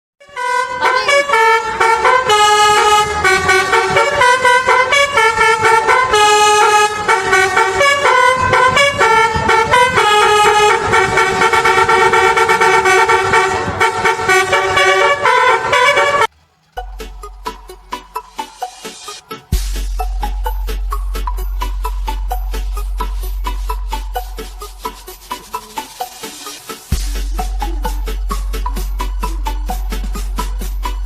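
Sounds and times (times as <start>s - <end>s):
pitched air horns melody: 0.2s - 31.0s.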